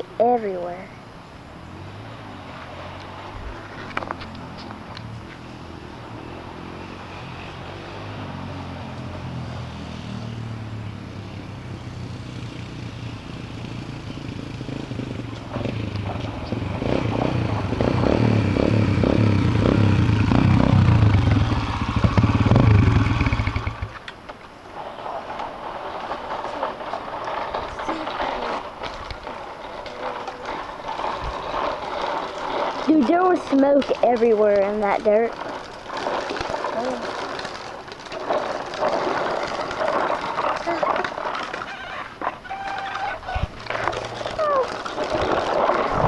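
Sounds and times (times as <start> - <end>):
dirt bike engine: 0.0 - 46.0.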